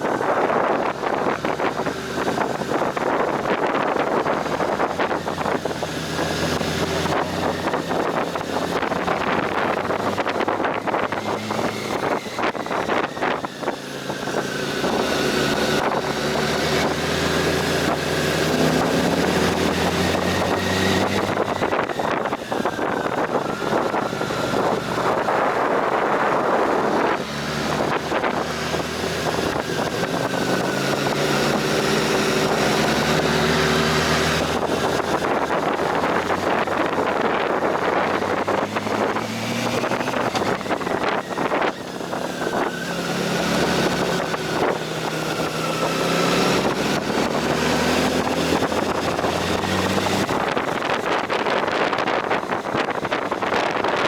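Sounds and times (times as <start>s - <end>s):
motorcycle engine revving through gears: 0.0s - 54.0s
wind noise on microphone: 0.0s - 54.0s.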